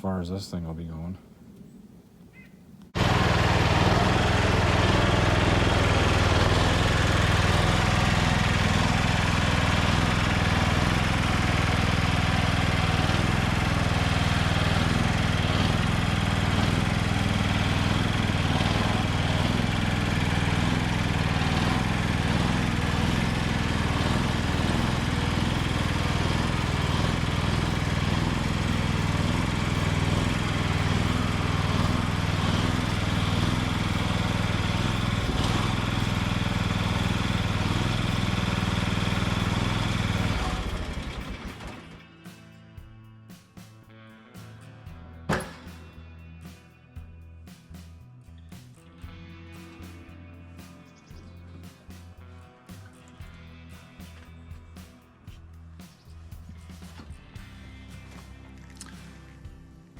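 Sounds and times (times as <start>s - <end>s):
garden tractor engine running: 2.9s - 42.0s, 45.3s - 45.9s, 48.3s - 59.9s.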